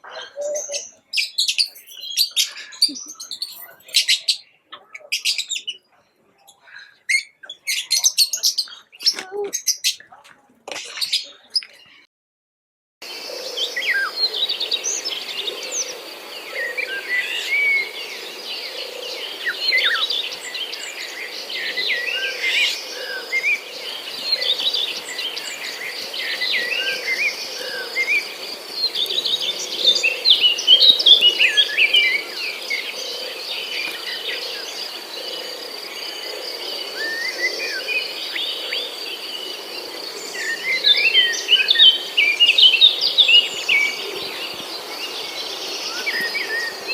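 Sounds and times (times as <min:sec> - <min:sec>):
small birds chirping: 0:00.0 - 0:12.1, 0:13.1 - 0:46.9.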